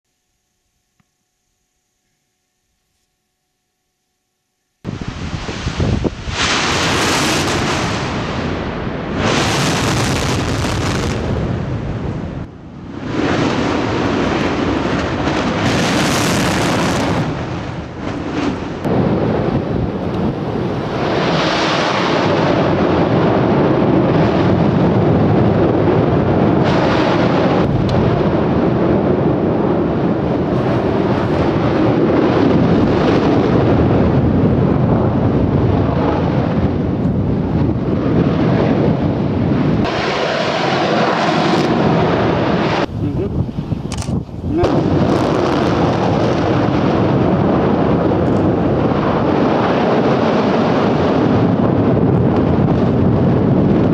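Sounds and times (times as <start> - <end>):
volcano eruption roar: 4.9 - 53.9.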